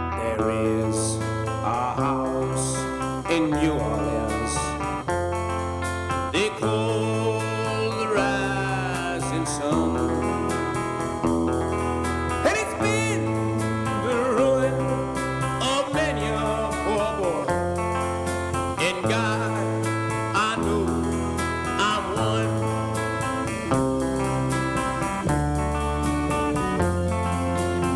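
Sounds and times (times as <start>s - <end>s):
country music with singing: 0.0s - 27.9s.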